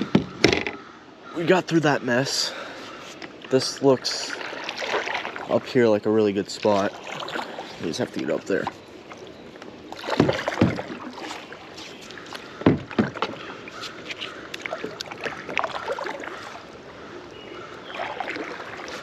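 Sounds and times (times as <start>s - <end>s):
moving water wash: 1.4s - 19.0s
paddle strokes in water: 2.5s - 19.0s.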